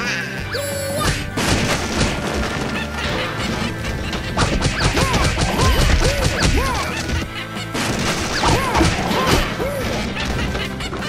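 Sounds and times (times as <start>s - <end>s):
music: 0.0s - 11.0s
debris crunching: 1.1s - 11.0s.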